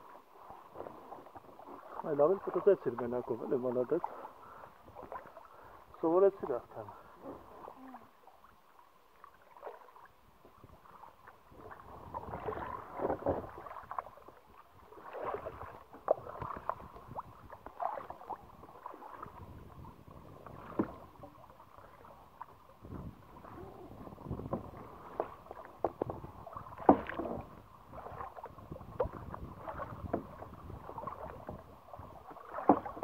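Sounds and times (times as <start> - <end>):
kayak paddles in water: 0.0 - 33.0
water splashes and drips: 0.0 - 33.0.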